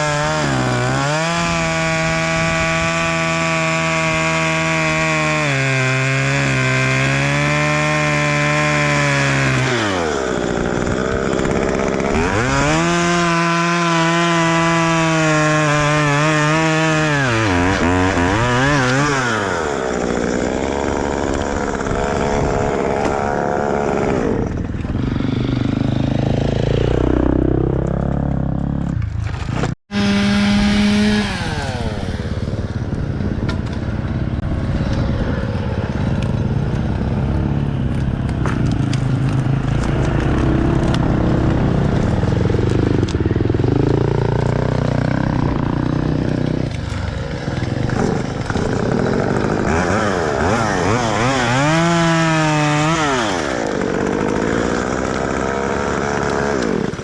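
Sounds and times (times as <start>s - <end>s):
two-stroke engines revving: 0.0s - 57.0s.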